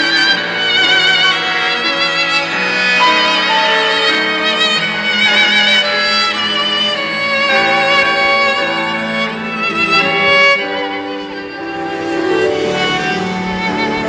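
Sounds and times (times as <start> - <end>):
ringtone melody on bowed strings: 0.0 - 14.0.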